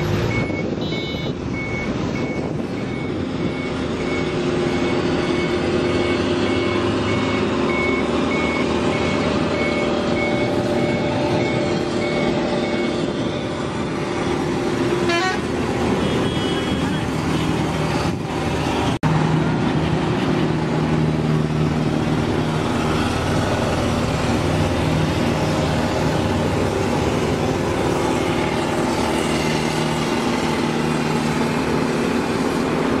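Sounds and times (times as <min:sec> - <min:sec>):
road roller diesel engine running: 0:00.0 - 0:33.0.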